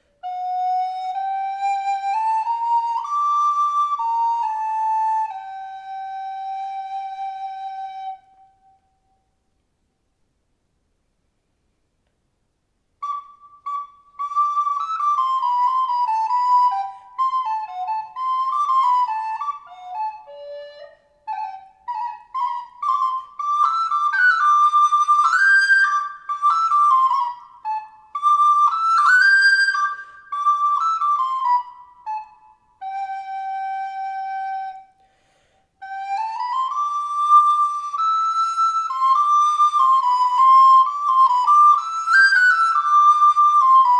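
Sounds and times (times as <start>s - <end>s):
solo flute melody: 0.0s - 9.4s, 13.0s - 43.9s.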